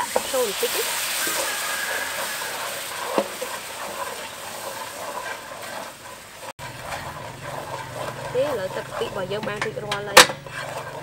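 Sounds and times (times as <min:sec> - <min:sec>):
sauce bubbling and sizzling: 0:00.0 - 0:11.0
wooden spoon stirring: 0:00.0 - 0:11.0.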